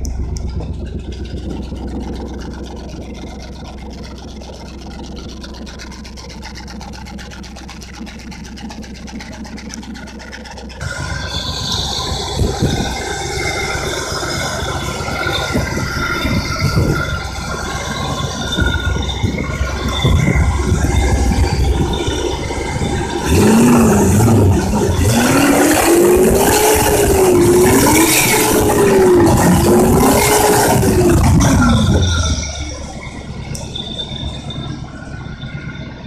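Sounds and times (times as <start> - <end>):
car engine idling: 0.0 - 36.0
mechanical clatter: 0.0 - 36.0.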